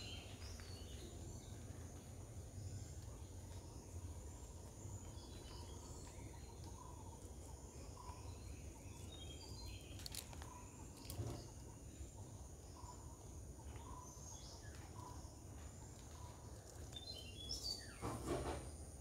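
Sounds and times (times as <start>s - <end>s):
faint bird chirps: 0.0s - 18.2s.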